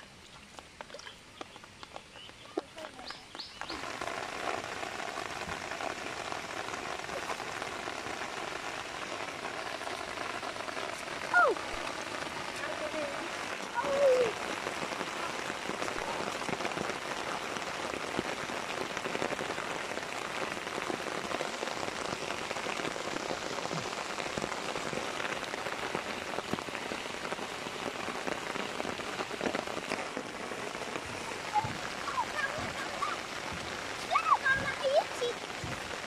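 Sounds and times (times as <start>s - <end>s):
rain falling on grass: 0.0s - 36.0s.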